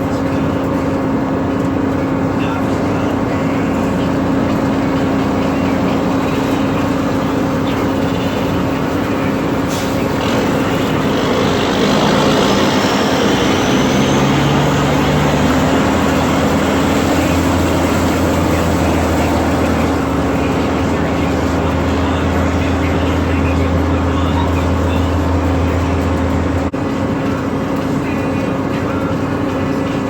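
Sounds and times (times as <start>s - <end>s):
heavy farm vehicle engine running: 0.0s - 30.0s.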